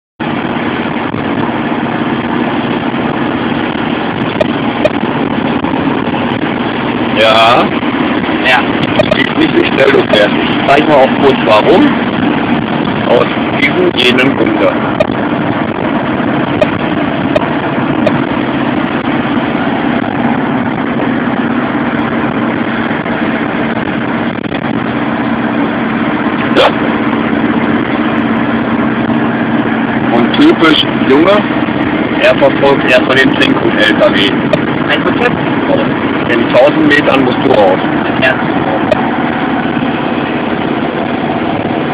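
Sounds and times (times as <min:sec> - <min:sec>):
engine and road noise in cab: 0:00.2 - 0:41.9
tyre and wind noise: 0:00.2 - 0:41.9.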